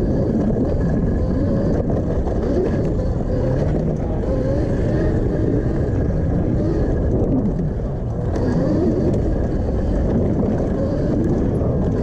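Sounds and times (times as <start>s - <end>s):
electric motor and chain whine: 0.0s - 12.0s
tyres and wind rumble: 0.0s - 12.0s.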